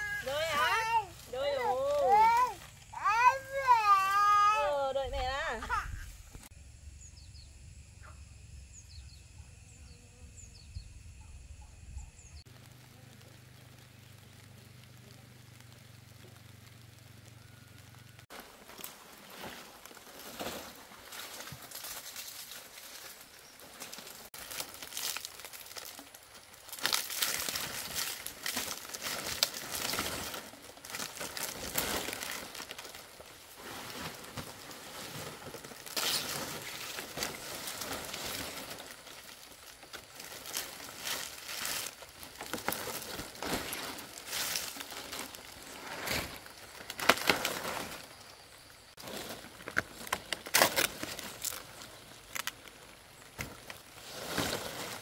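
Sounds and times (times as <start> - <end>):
palm fronds rustling: 0.0 - 6.5, 12.4 - 55.0.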